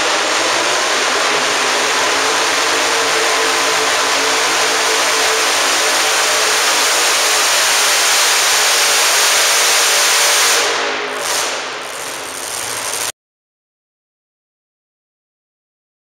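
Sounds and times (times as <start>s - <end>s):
pulling truck engine running loud: 0.0s - 13.1s.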